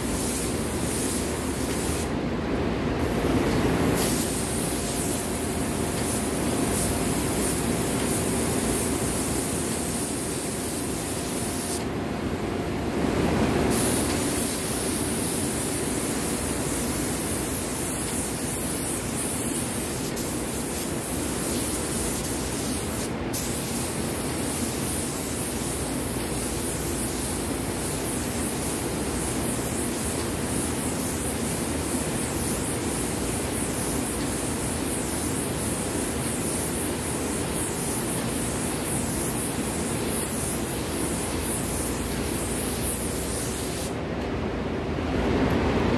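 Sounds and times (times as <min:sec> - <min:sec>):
paint spray gun hissing: 0:00.0 - 0:02.1, 0:04.0 - 0:11.9, 0:13.7 - 0:44.0.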